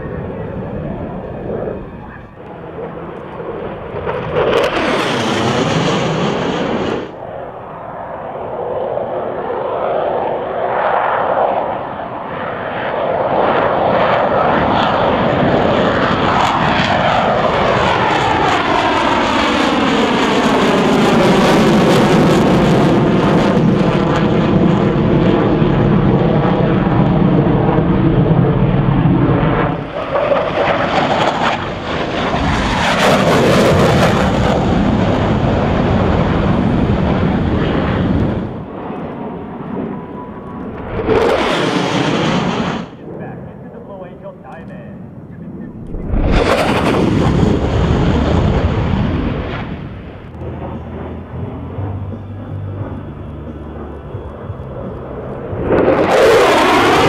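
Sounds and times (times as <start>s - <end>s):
fighter jets passing low: 0.0s - 57.0s.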